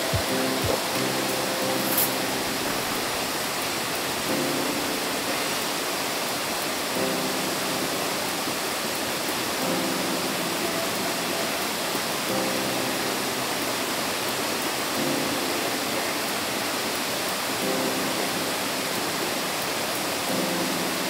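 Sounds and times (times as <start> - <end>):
soft background music chords: 0.0 - 21.0
stream water flowing: 0.0 - 21.0.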